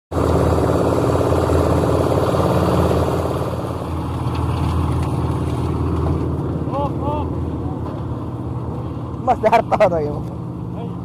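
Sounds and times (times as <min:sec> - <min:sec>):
concrete mixer engine running: 0:00.1 - 0:10.1.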